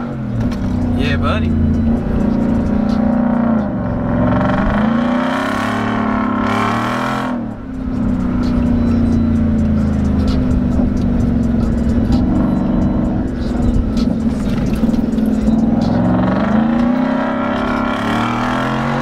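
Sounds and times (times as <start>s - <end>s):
truck engine from inside cab: 0.0s - 19.0s.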